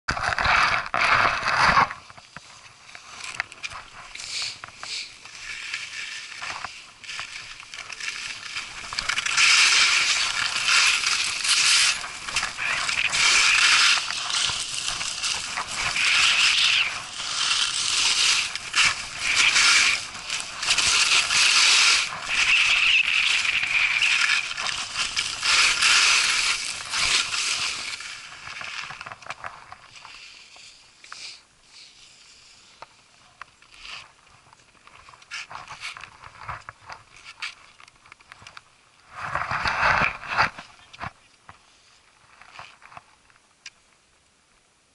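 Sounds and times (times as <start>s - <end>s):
skis scraping over snow: 0.1s - 43.1s.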